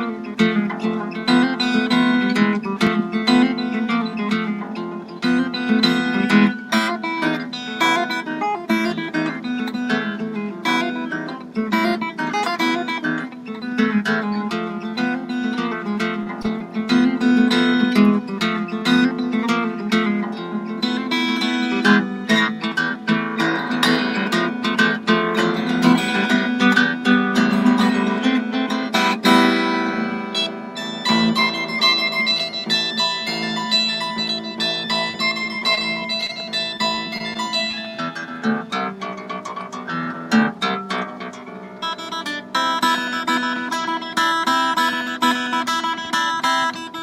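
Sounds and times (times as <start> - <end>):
fingerpicked harp guitar: 0.0 - 47.0
strum across strings: 0.0 - 47.0.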